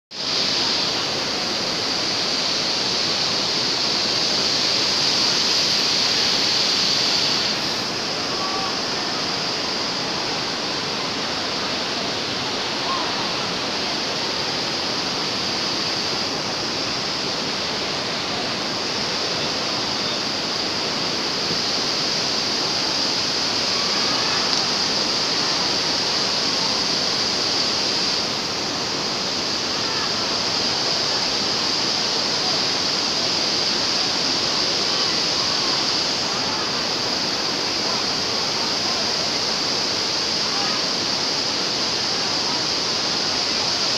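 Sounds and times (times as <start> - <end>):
floodwater rushing: 0.1 - 43.9.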